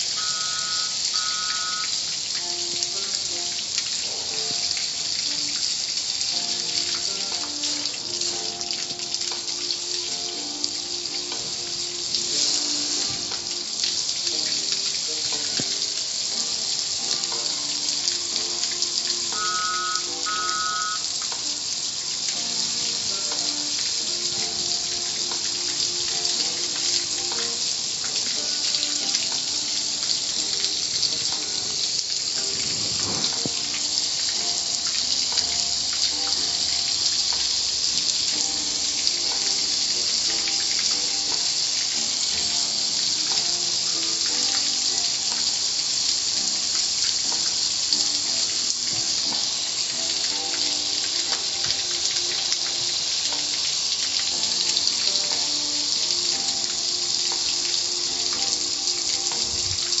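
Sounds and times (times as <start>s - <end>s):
spraying water hiss: 0.0s - 60.0s.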